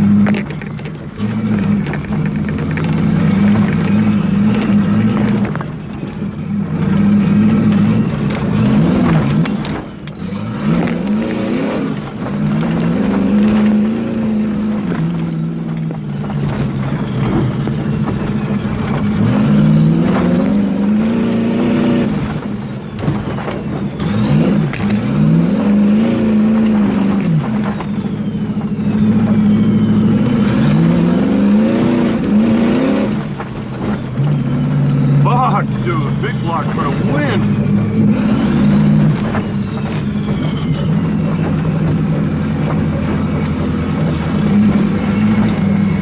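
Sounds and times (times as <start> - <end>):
truck engine revving: 0.0 - 46.0.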